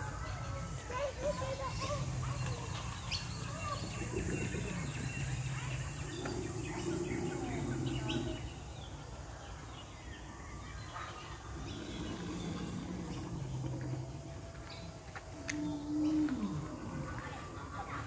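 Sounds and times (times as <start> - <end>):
indistinct voices: 0.0 - 9.0, 10.8 - 18.0
birds chirping: 0.0 - 18.0
low outdoor background: 0.0 - 18.0.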